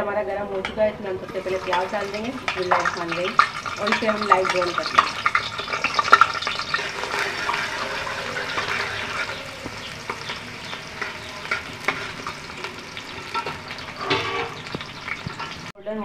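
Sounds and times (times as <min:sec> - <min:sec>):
metal spatula scraping pot: 0:00.6 - 0:15.7
onions sizzling in oil: 0:01.2 - 0:15.8.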